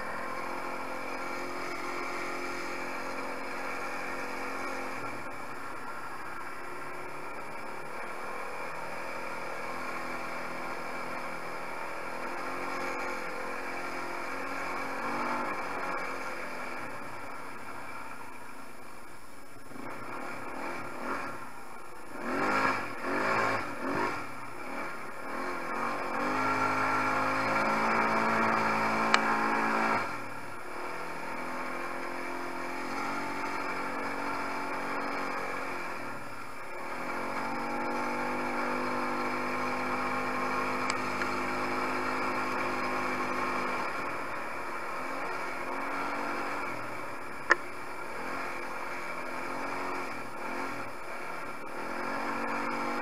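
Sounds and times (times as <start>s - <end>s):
quad bike engine revving: 0.0s - 18.3s, 19.7s - 53.0s.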